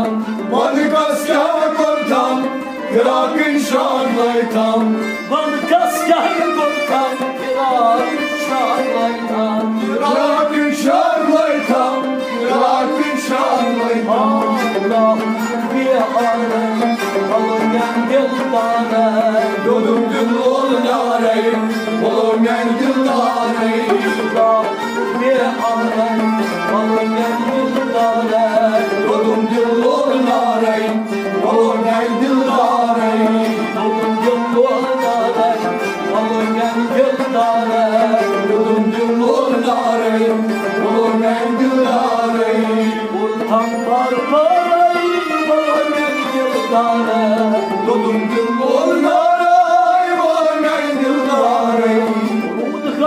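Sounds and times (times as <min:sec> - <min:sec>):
bowed sarangi: 0:00.0 - 0:53.0
harmonium drone and melody: 0:00.0 - 0:53.0
man singing: 0:00.0 - 0:53.0
percussion keeping time: 0:00.0 - 0:53.0.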